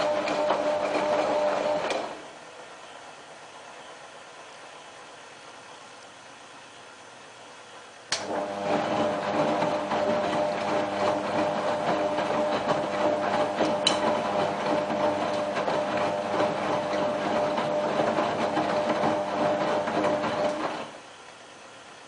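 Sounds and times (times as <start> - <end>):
washing machine whine and rattling: 0.0 - 5.8, 7.4 - 22.0.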